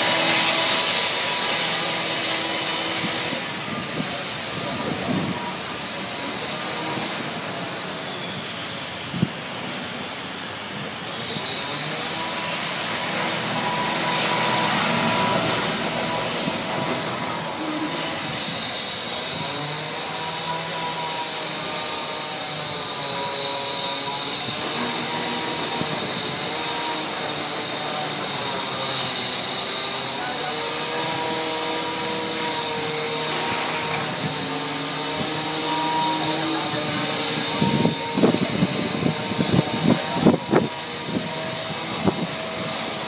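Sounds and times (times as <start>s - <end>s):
hiss of wet road and rain: 0.0s - 30.5s, 31.8s - 43.0s.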